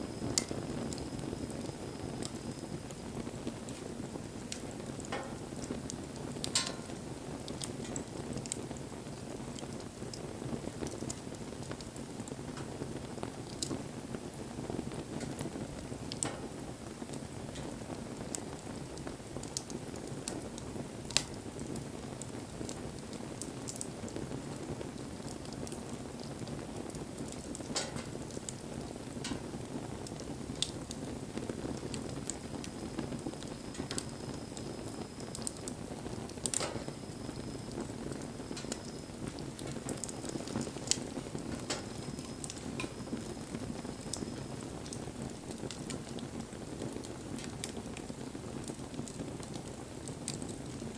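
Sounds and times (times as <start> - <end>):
bonfire flames rushing: 0.0 - 50.9
fire crackling and popping: 0.0 - 50.9.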